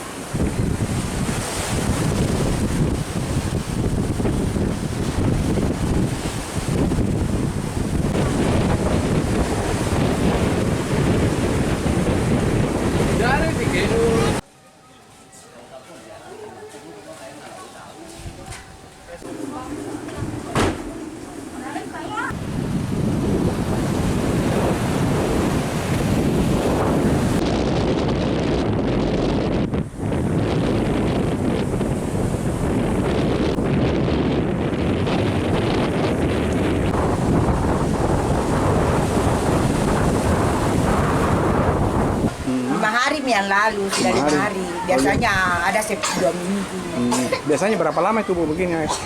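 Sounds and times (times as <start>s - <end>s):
high surf rushing: 0.0s - 14.4s, 18.0s - 49.0s
strong wind buffeting microphone: 0.0s - 14.4s, 18.1s - 49.0s
waves surging against shore: 0.0s - 14.4s, 16.8s - 27.6s, 34.7s - 49.0s.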